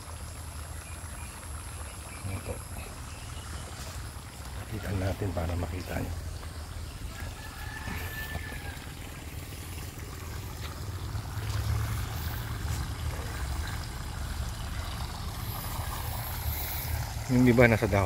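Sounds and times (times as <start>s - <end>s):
faint trickling water: 0.0s - 18.0s.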